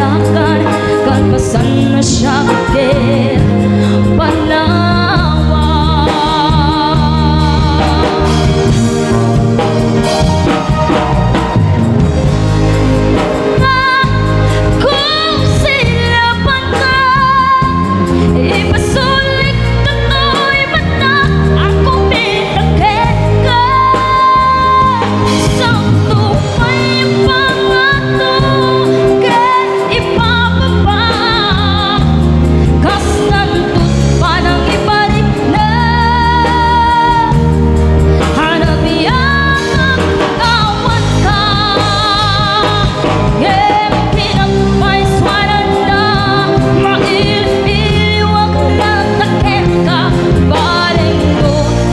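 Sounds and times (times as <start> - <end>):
woman singing into a microphone: 0.0 - 12.3, 13.0 - 51.9
band playing drums bass and guitar: 0.0 - 51.9.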